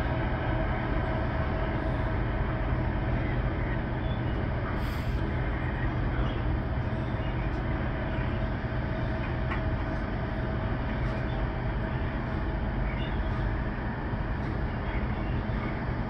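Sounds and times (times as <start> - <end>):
freight train rumbling: 0.0 - 16.0
thin steady whine: 0.0 - 16.0.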